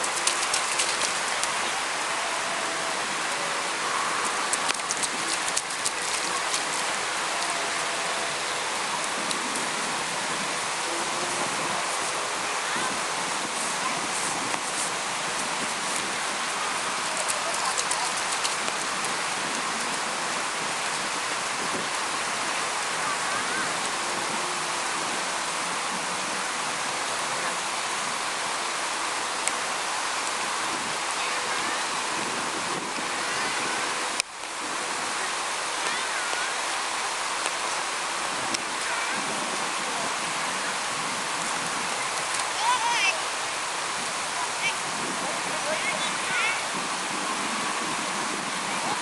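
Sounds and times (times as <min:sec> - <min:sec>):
waves breaking on beach: 0:00.0 - 0:49.0.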